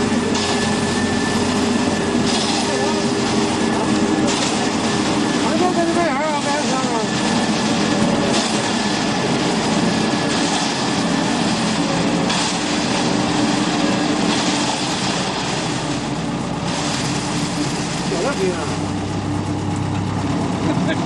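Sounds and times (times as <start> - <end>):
concrete mixer truck running: 0.0 - 21.0.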